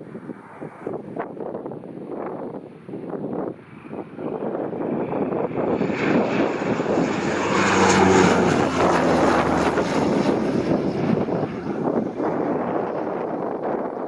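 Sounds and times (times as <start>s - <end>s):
aircraft engines passing: 0.0s - 14.0s.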